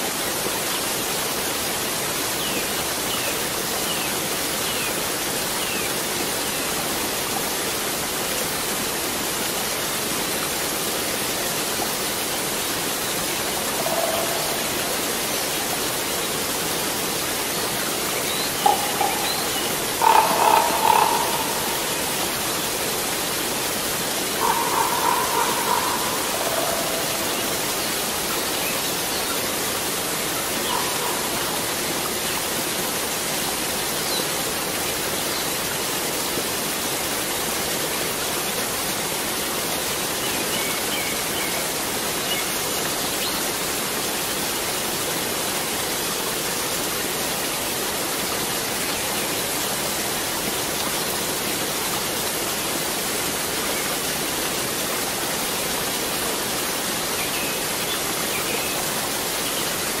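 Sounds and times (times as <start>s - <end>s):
waterfall rushing: 0.1s - 60.0s.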